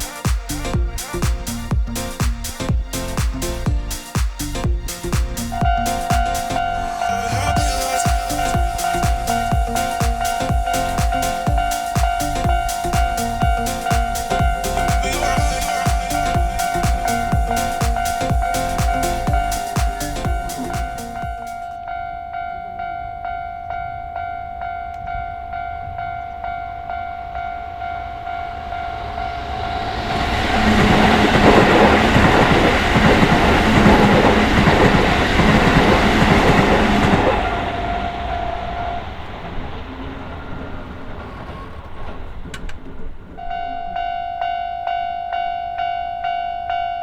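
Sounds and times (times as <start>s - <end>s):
train rumbling on rails: 0.0s - 45.0s
level-crossing warning bell dinging: 5.4s - 47.0s.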